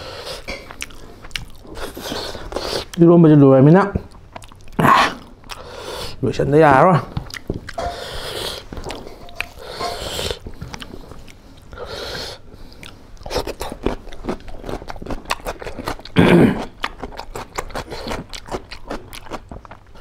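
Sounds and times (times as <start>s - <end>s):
man chewing food: 0.0s - 3.0s, 4.0s - 6.2s, 7.1s - 20.0s.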